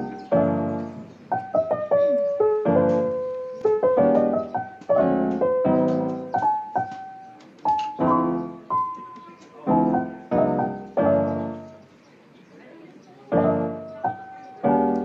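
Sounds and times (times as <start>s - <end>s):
piano music: 0.0s - 11.9s, 13.2s - 15.0s.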